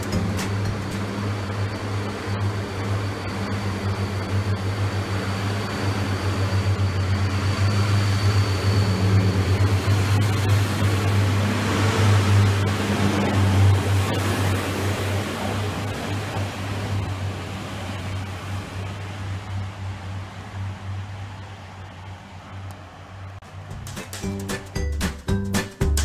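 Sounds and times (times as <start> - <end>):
diesel train engine drone: 0.0 - 26.0
rail and wheel rumble: 0.0 - 26.0.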